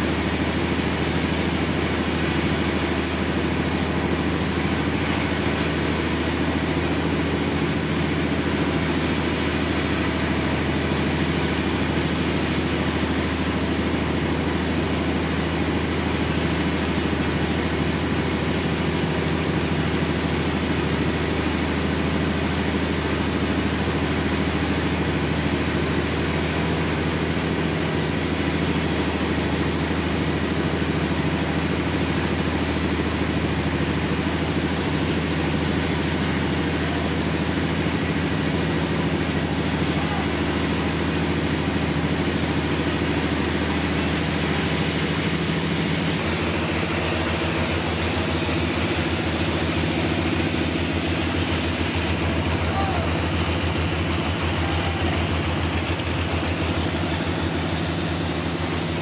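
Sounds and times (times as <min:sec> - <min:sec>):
sawmill engine drone: 0:00.0 - 0:59.0.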